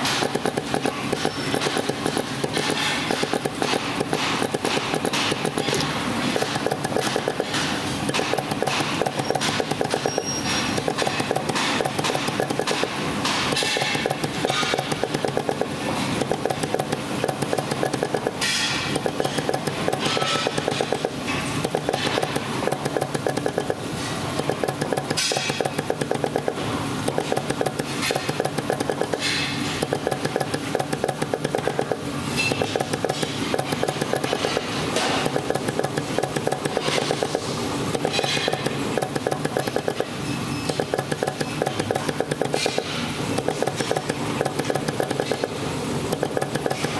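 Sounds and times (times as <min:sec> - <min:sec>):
machine rapid mechanical pulsing: 0:00.0 - 0:46.9.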